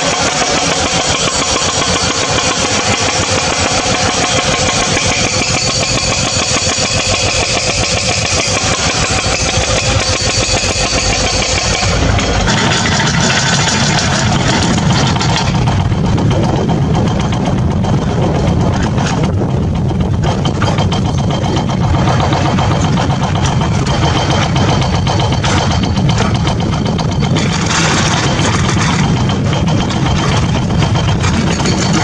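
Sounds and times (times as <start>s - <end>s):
motor running steadily: 0.0s - 32.0s.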